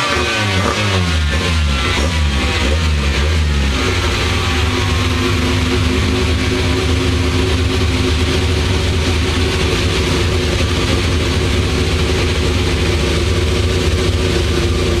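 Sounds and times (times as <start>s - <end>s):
car engine running loudly: 0.0s - 15.0s.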